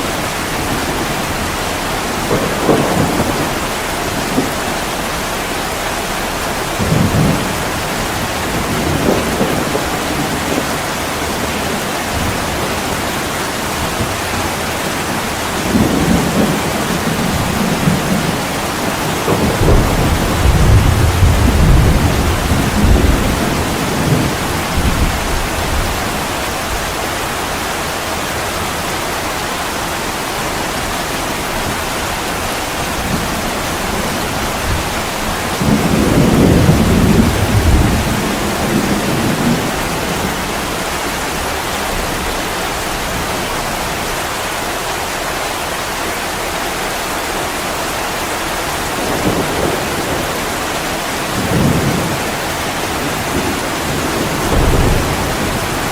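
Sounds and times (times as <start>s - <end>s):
distant thunder rumbling: 0.0s - 44.4s, 47.8s - 55.9s
heavy rain pouring: 0.0s - 55.9s.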